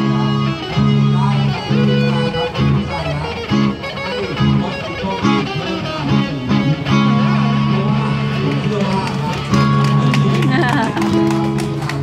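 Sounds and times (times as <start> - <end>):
guitar-led busking music: 0.0 - 12.0.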